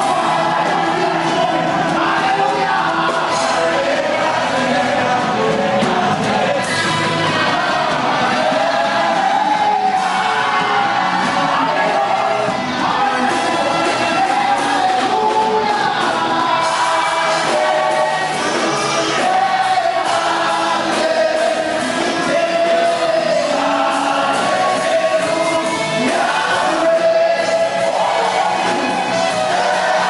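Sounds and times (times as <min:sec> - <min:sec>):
gospel worship singing: 0:00.0 - 0:30.0.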